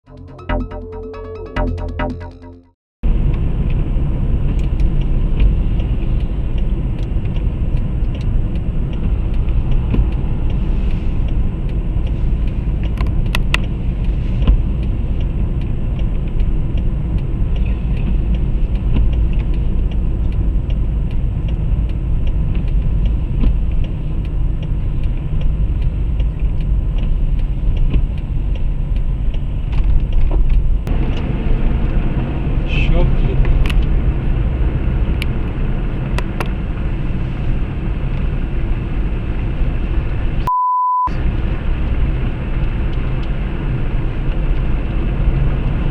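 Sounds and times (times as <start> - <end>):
tyre and engine rumble in car: 3.0 - 40.5, 41.1 - 45.9.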